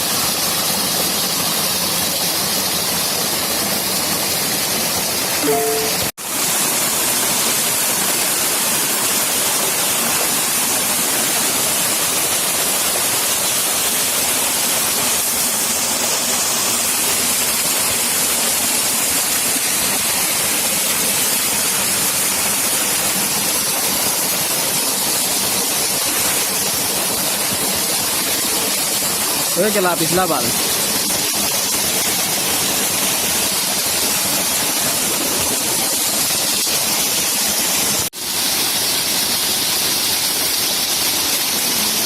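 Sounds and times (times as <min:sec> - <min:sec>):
waterfall roar: 0:00.0 - 0:42.0.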